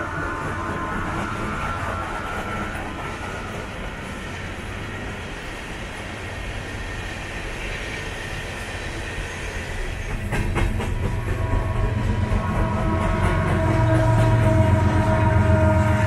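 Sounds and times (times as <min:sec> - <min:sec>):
steel wheels rumbling on rail: 0:00.0 - 0:16.0.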